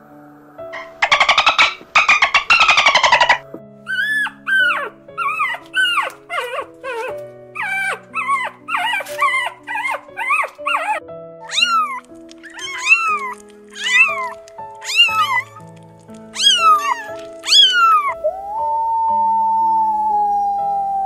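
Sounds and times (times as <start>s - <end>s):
soft background music: 0.0s - 21.0s
kitten meowing: 0.8s - 15.7s, 16.3s - 21.0s
puppies yelping and whining: 0.8s - 19.3s.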